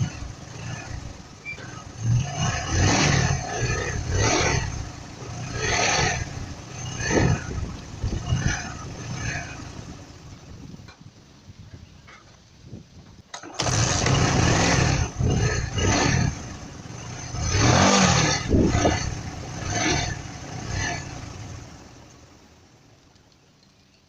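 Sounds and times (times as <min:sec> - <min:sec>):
motorcycle engine starting and revving: 0:00.0 - 0:11.4, 0:13.3 - 0:24.0.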